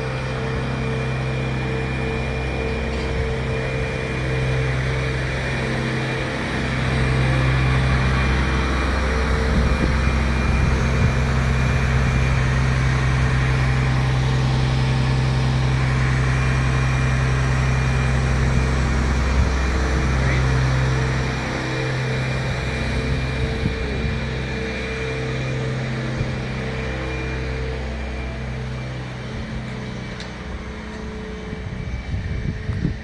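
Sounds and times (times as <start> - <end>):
crane engine running: 0.0 - 33.0.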